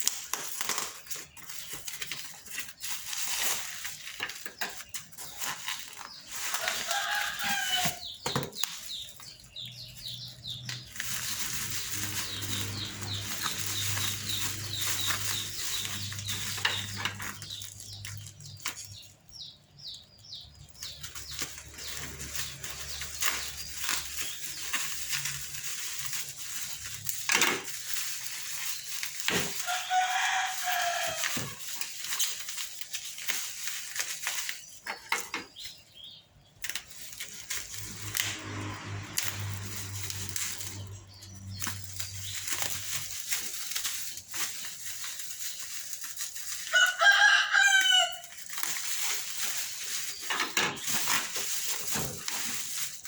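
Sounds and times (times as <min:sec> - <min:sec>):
chickens clucking and peeping: 0:00.0 - 0:53.0.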